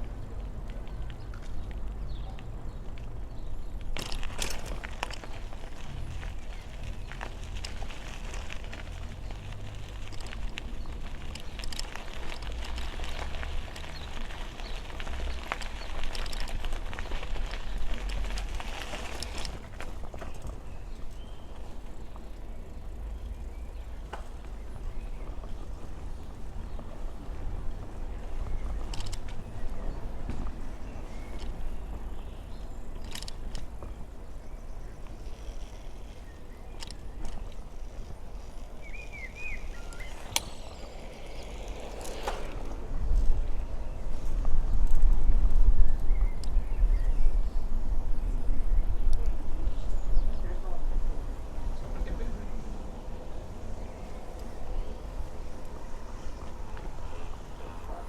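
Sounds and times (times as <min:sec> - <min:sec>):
bike clicks: 0:00.0 - 0:46.8, 0:49.0 - 0:50.0, 0:51.4 - 0:58.0
bicycle tyres on road: 0:00.0 - 0:58.0
wind rumbling on microphone: 0:00.0 - 0:58.0.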